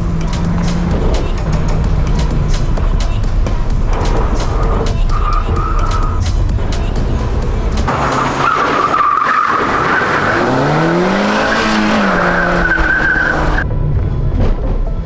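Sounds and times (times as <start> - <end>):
rally car engine revving: 0.0 - 13.6
tyres on dirt: 0.0 - 13.6.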